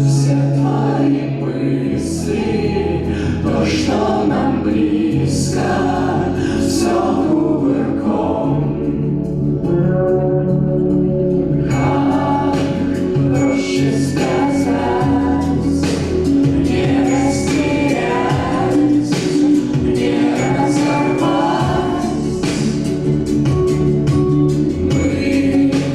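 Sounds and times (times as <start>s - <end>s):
voices singing: 0.0s - 10.1s, 11.3s - 25.9s
sustained chords: 0.0s - 25.9s.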